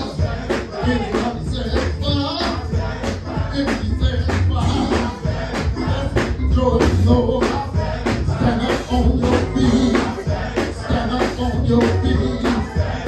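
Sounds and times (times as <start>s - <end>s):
band with drums and bass: 0.0s - 13.0s
singing: 0.0s - 13.0s.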